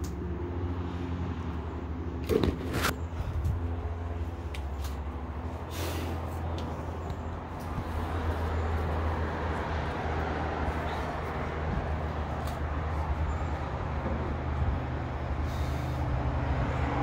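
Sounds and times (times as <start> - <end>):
heavy vehicle engine drone: 0.0 - 17.0
tyre and road noise: 0.0 - 17.0.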